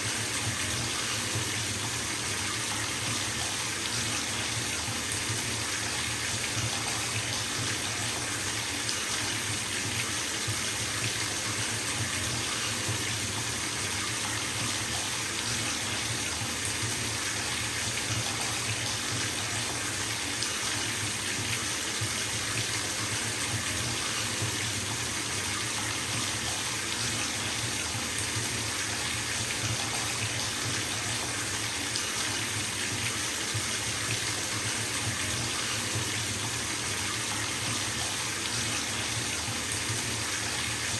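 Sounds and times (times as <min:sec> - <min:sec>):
water pouring into bathtub: 0:00.0 - 0:40.9.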